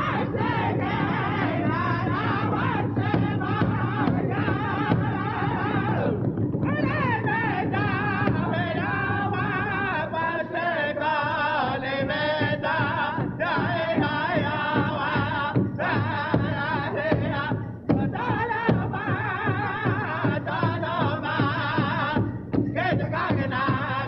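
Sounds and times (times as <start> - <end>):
steady drum beat: 0.0 - 10.4, 11.3 - 24.0
person singing with vibrato: 0.0 - 24.0.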